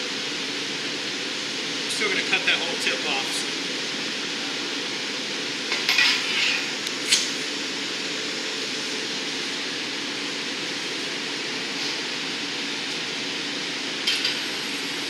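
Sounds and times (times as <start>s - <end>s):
furnace burners roaring: 0.0s - 15.0s.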